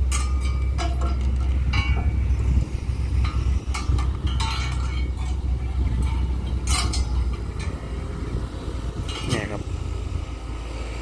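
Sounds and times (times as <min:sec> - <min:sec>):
chains and metal clinking: 0:00.0 - 0:09.8
diesel engine running: 0:00.0 - 0:11.0.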